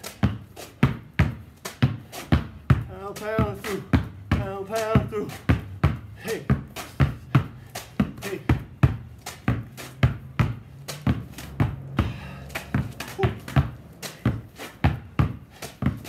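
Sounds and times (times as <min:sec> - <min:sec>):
basketballs thudding on concrete: 0:00.0 - 0:16.0.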